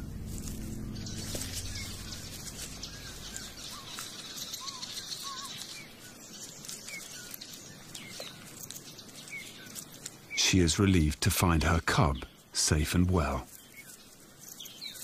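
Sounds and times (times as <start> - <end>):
birds chirping and whistling: 0.0 - 11.1, 12.0 - 15.0
steady high hiss: 0.0 - 15.0.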